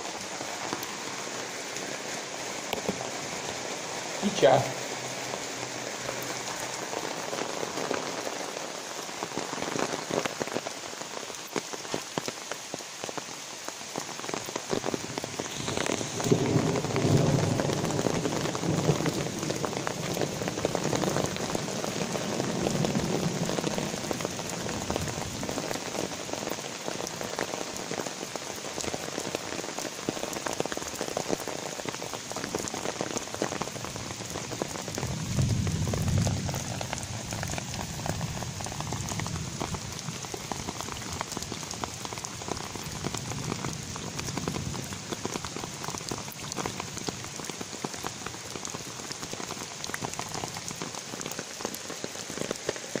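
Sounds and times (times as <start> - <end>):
rain pattering on pavement: 0.0 - 53.0.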